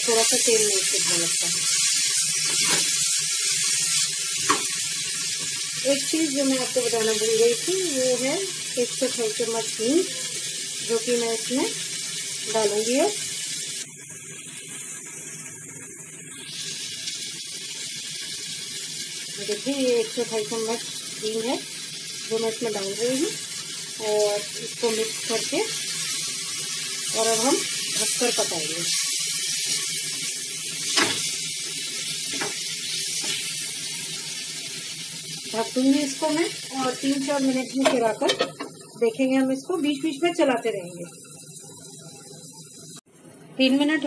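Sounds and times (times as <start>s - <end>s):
vegetables sizzling in oil: 0.0s - 44.0s.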